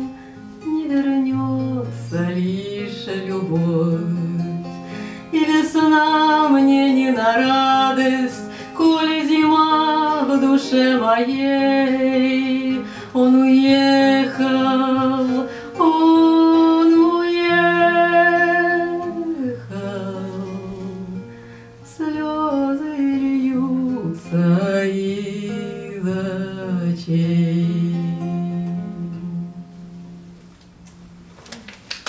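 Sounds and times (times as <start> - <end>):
woman singing with vibrato: 0.0 - 4.7, 5.3 - 29.8
acoustic guitar: 0.0 - 32.0.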